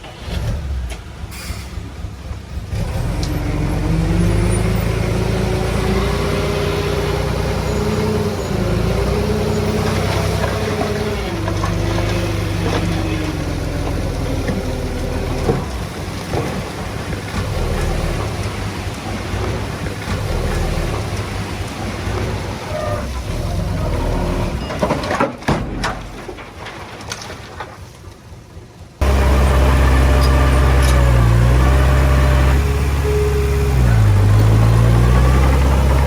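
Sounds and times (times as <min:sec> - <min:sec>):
diesel engine running hard: 0:00.0 - 0:25.2, 0:28.7 - 0:36.0.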